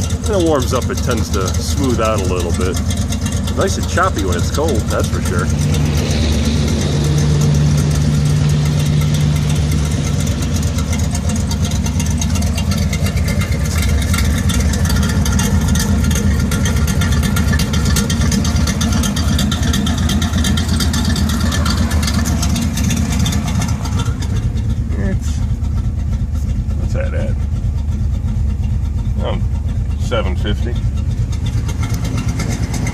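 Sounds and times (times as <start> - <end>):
car engine lumpy idle: 0.0 - 32.9.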